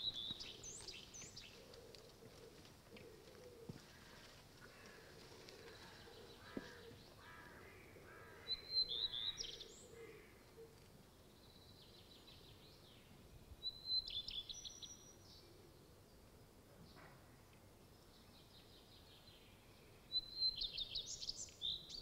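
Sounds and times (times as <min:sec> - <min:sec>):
songbird singing: 0:00.0 - 0:17.1, 0:17.8 - 0:22.0.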